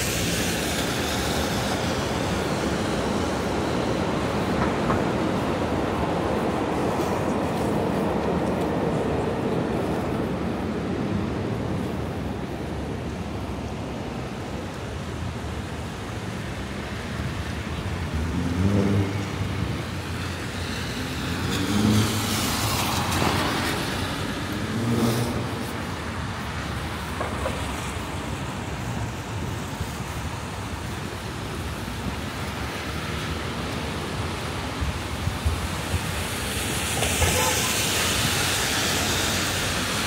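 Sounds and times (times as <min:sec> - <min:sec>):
traffic on wet pavement: 0:00.0 - 0:40.0.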